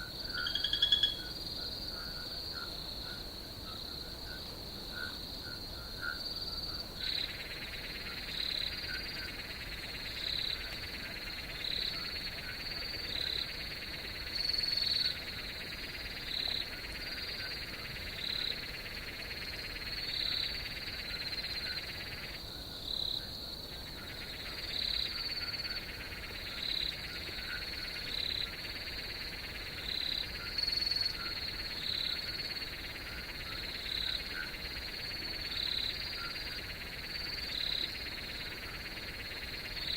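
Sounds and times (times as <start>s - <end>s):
frog and insect chorus: 0.0s - 39.9s
frog call: 0.0s - 39.9s.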